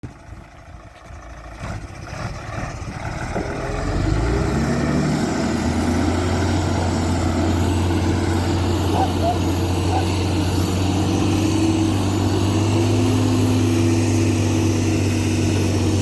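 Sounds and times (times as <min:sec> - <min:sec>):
truck engine revving: 0:00.3 - 0:16.0.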